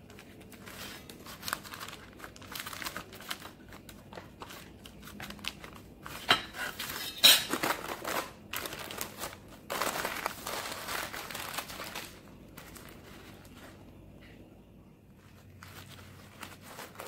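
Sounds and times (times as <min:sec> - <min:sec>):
sharp paper crackles: 0:00.0 - 0:13.8, 0:15.2 - 0:17.0
baking paper rustling: 0:00.0 - 0:17.0.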